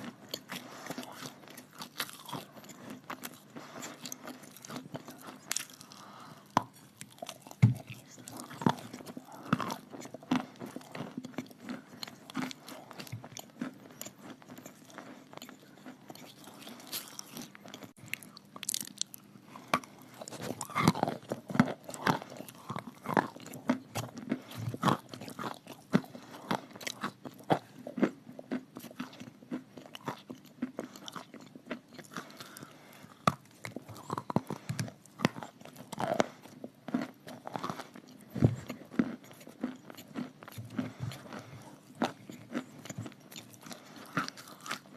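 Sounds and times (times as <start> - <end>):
chewing crisp crunches: 0.0 - 44.9.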